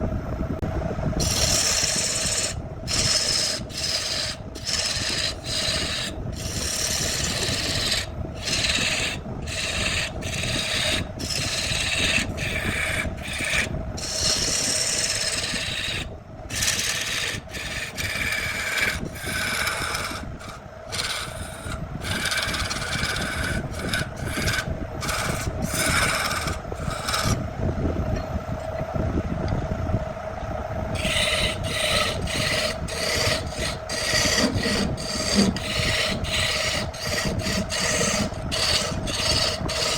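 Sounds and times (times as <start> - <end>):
steady motor hum: 0.0 - 39.9
wood scraping strokes: 1.2 - 27.4, 31.0 - 39.9.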